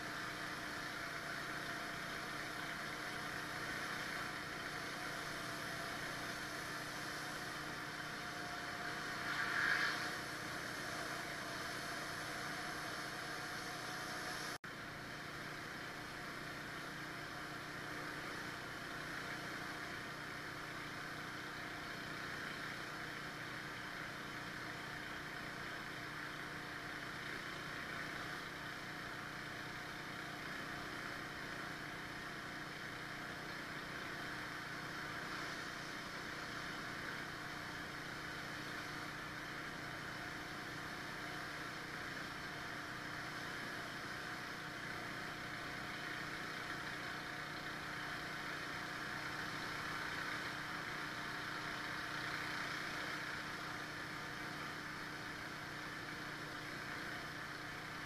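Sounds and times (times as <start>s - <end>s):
pressure washer running: 0.0s - 58.0s.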